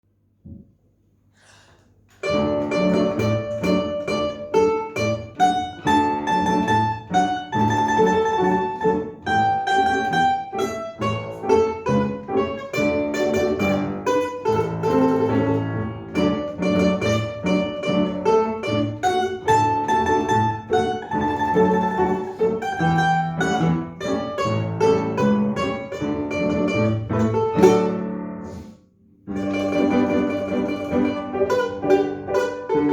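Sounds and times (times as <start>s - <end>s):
plucked string instrument march: 2.1s - 32.9s.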